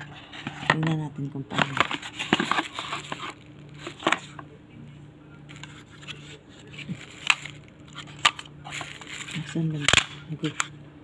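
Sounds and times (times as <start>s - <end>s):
plastic rustling and scraping: 0.0s - 4.4s, 5.5s - 10.7s
steady low hum: 0.0s - 11.0s.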